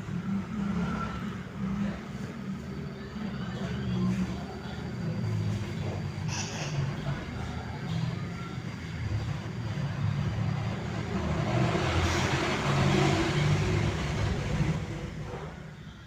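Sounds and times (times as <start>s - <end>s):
motor vehicle passing by: 0.0s - 15.7s.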